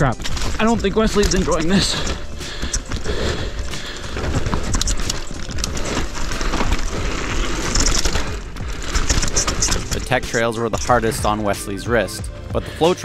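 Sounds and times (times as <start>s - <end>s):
bike knocking and rattling: 0.0s - 12.1s
tyres crunching over dirt: 0.0s - 13.0s.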